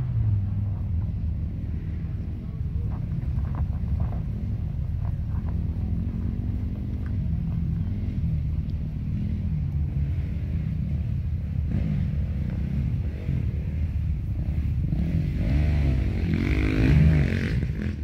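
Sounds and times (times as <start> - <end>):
truck engine low rumble: 0.0 - 18.0.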